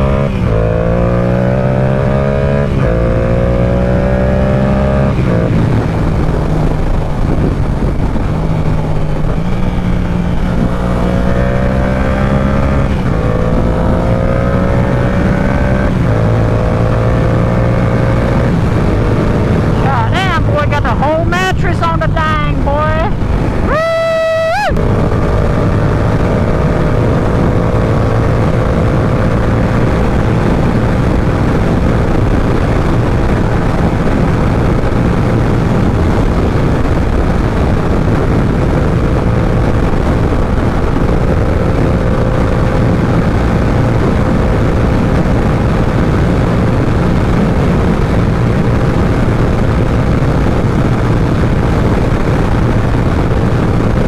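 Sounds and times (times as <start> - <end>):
motorcycle engine revving: 0.0 - 54.0
wind rushing on microphone: 0.0 - 54.0.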